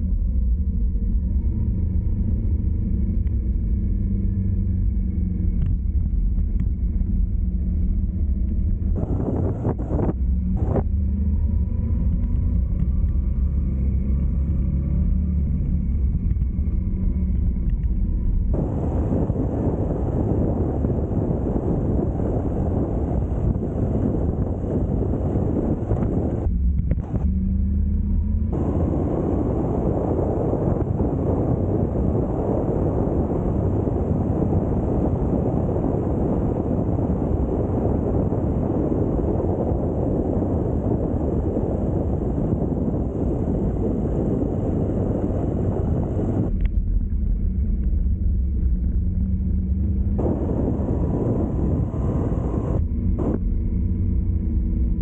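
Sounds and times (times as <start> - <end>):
car road and engine rumble: 0.0 - 55.0
faint engine hum: 0.0 - 55.0
wind buffeting microphone: 1.3 - 55.0.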